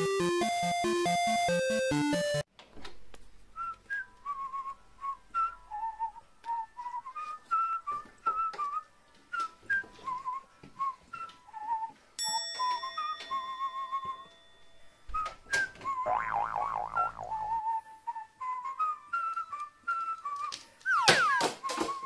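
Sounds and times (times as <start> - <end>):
whistled melody: 3.6 - 22.0.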